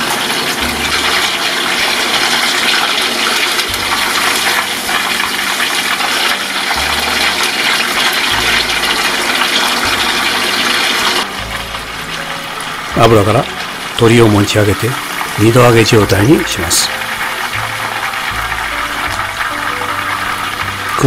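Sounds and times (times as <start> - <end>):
chicken deep-frying in hot oil: 0.0 - 21.0.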